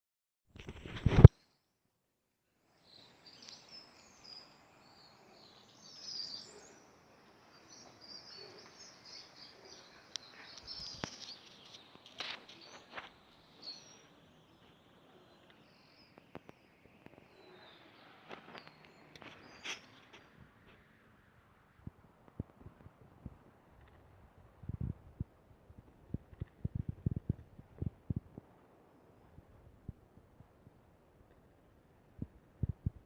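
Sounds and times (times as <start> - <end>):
small birds chirping: 2.7 - 21.0, 22.3 - 33.0.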